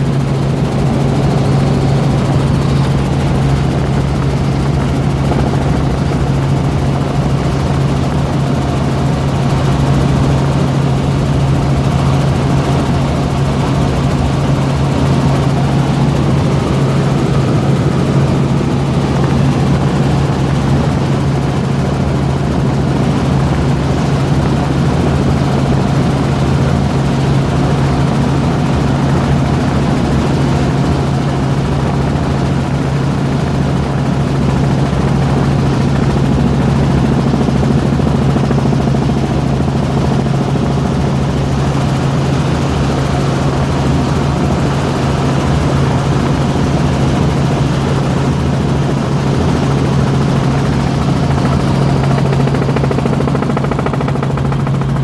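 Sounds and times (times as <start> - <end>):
helicopter rotors and engine: 0.0 - 55.0.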